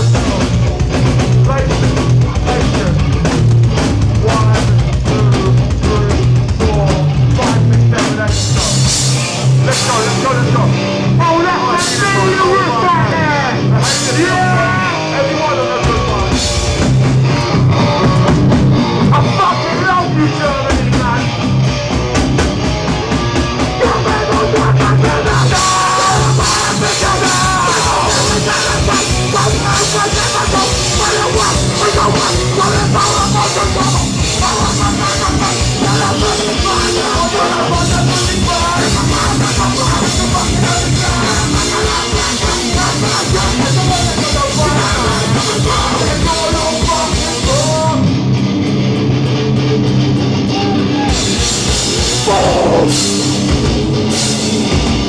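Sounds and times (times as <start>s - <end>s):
bass guitar: 0.0s - 55.0s
distorted electric guitars: 0.0s - 55.0s
drum kit: 0.0s - 55.0s.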